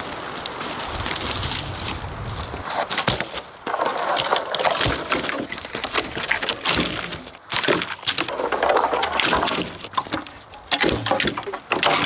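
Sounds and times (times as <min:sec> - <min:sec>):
twigs cracking and snapping: 0:00.0 - 0:12.0.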